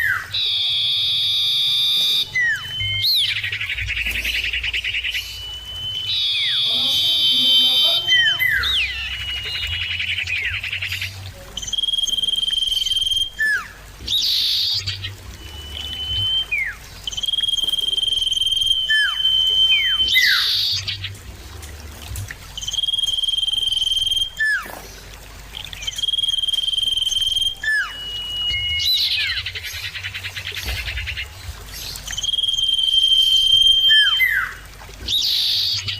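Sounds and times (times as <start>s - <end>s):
bird whistling call: 0.0s - 21.2s, 22.6s - 35.9s.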